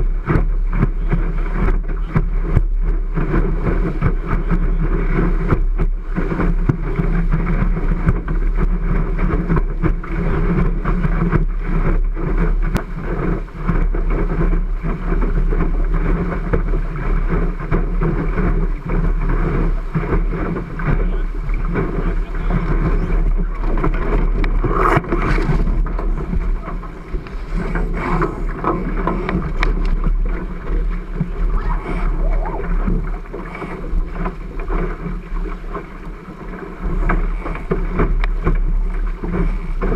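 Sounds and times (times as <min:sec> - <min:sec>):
water rushing along hull: 0:00.0 - 0:39.9
wind buffeting camera: 0:00.0 - 0:39.9.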